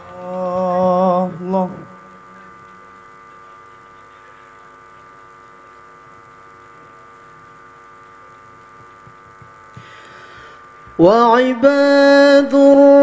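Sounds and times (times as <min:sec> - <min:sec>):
electrical mains hum and buzz: 0:00.0 - 0:13.0.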